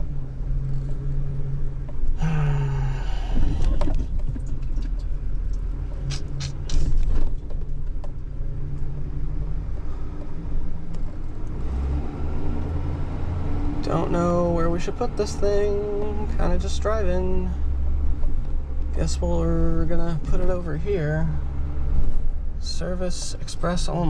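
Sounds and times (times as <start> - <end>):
pickup engine and road rumble: 0.0 - 24.0.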